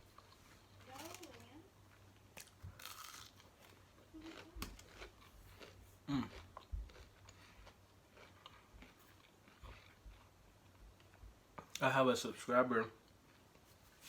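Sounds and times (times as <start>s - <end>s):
man chewing food: 0.0s - 1.1s, 1.8s - 11.8s, 13.0s - 13.9s.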